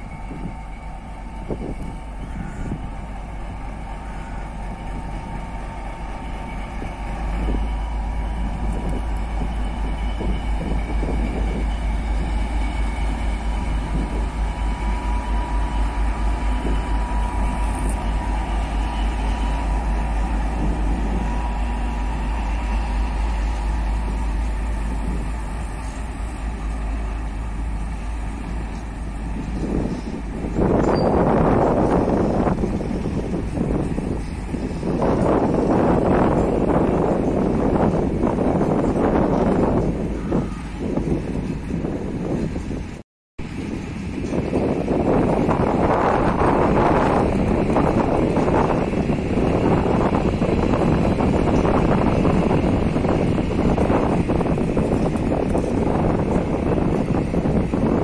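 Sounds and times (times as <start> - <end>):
diesel locomotive engine rumbling: 0.0 - 58.0.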